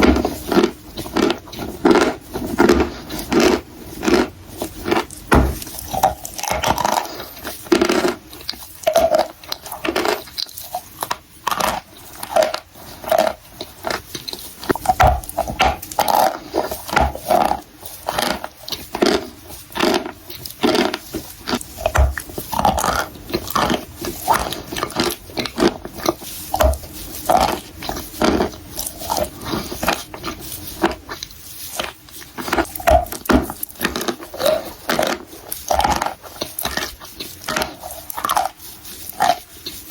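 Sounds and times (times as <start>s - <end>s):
biting and chewing dry clay: 0.0s - 39.9s.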